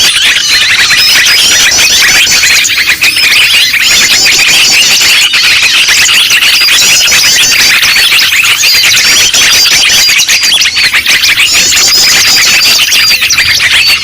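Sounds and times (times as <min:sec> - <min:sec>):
chorus of small birds chirping: 0:00.0 - 0:14.0.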